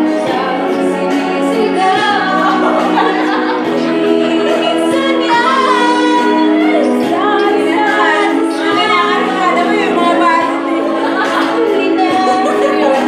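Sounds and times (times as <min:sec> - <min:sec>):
backing track chords: 0:00.0 - 0:13.0
woman singing karaoke: 0:00.0 - 0:13.0.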